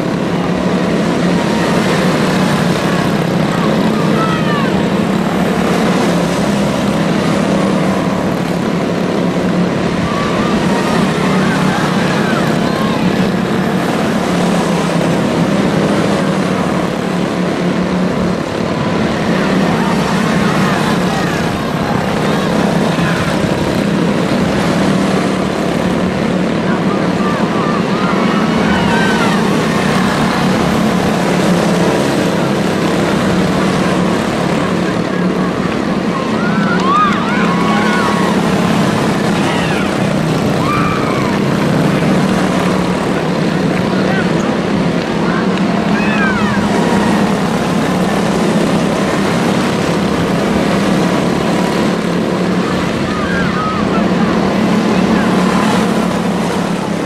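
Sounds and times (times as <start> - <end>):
rising and falling high sounds: 0.0 - 57.0
small race car engines: 0.0 - 57.0.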